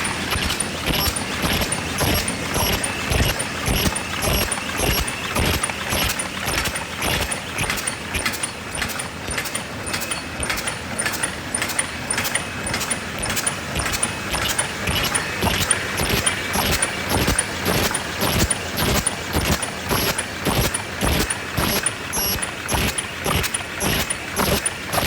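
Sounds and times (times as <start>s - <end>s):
machine clattering: 0.0s - 25.0s.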